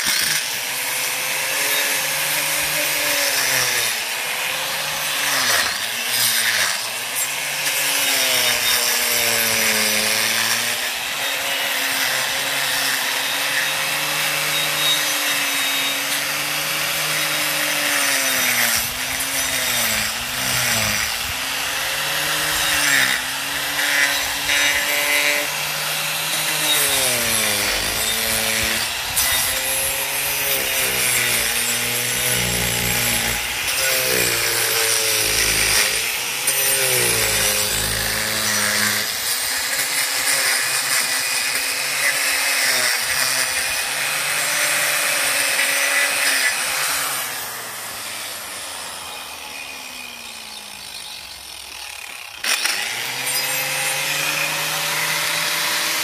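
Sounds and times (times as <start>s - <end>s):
angle grinder cutting wood: 0.0s - 56.0s.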